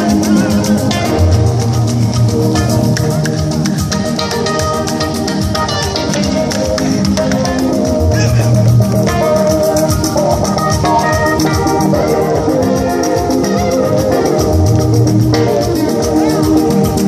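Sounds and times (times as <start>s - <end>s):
organ-like keyboard chords: 0.0s - 17.0s
upbeat dance music: 0.0s - 17.0s.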